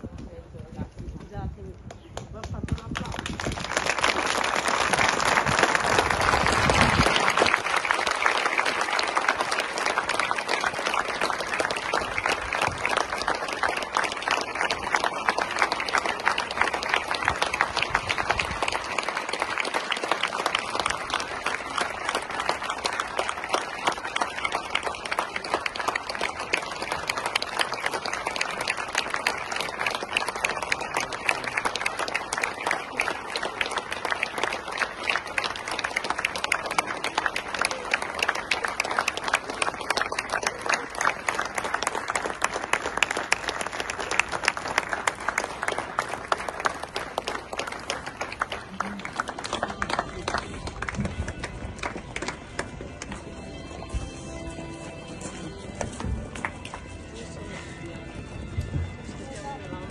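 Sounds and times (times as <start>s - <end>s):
large crowd applauding: 1.9s - 57.5s.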